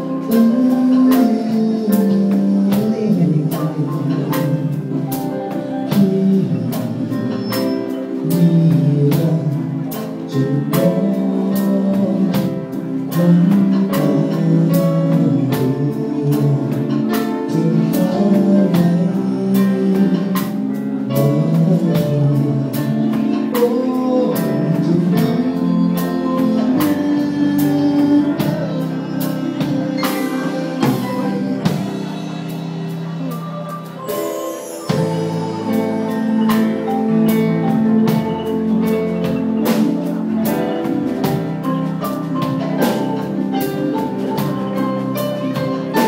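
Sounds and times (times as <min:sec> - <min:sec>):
drums steady beat: 0:00.0 - 0:46.0
electric guitar: 0:00.0 - 0:46.0.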